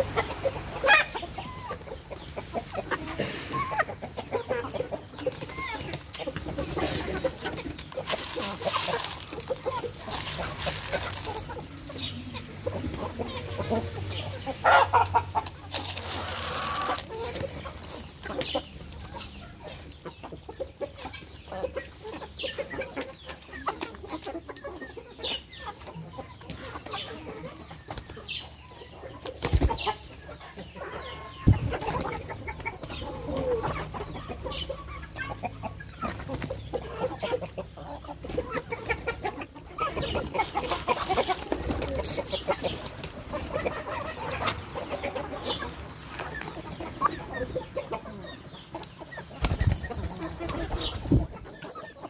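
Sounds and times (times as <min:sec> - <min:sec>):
loud chicken calls: 0:00.0 - 0:19.9, 0:28.4 - 0:52.0
chickens clucking: 0:00.0 - 0:52.0.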